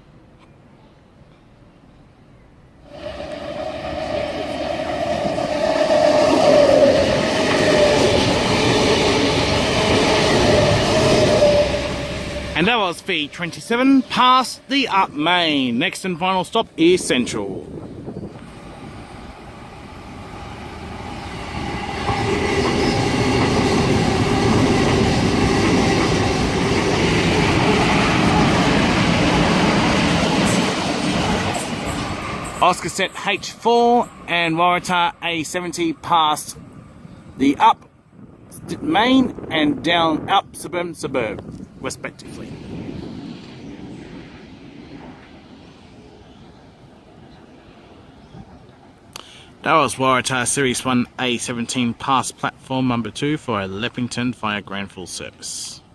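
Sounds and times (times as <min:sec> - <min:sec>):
electric train passing: 0:02.8 - 0:52.6
rumble of wheels on rail: 0:02.8 - 0:52.6.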